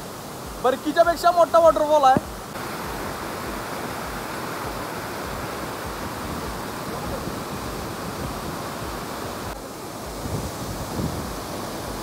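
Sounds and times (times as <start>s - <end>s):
waterfall rushing: 0.0s - 12.0s
wind buffeting microphone: 2.2s - 12.0s.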